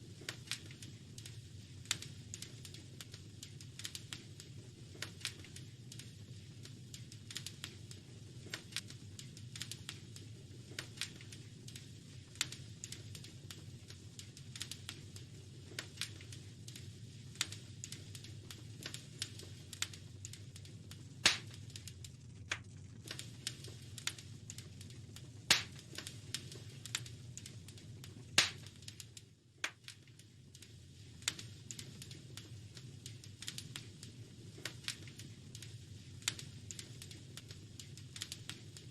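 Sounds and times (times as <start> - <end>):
low rumble of flames: 0.0 - 38.9
wood fire popping and snapping: 0.0 - 38.9.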